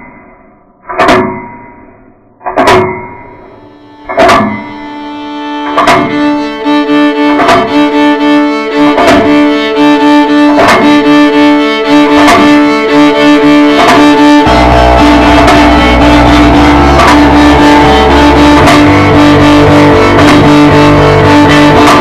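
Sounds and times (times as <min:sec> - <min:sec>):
heavy bass: 0:02.0 - 0:22.0
steady beat of sharp strikes: 0:02.5 - 0:22.0
bowed string tones: 0:02.9 - 0:22.0.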